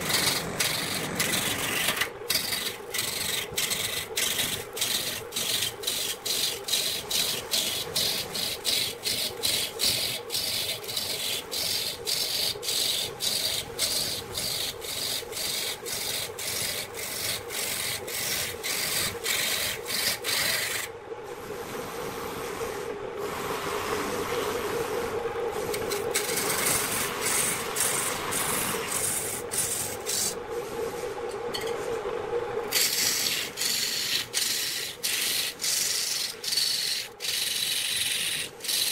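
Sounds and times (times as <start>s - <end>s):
wood lathe turning tool cutting: 0.0s - 20.9s, 25.7s - 30.4s, 32.7s - 38.9s.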